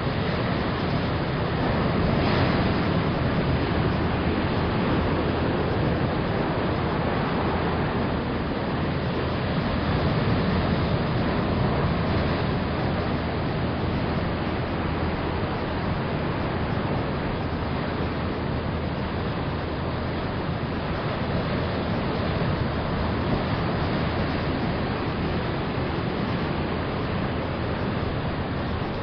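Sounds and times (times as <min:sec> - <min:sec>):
waves crashing over rocks: 0:00.0 - 0:08.2, 0:08.8 - 0:29.0.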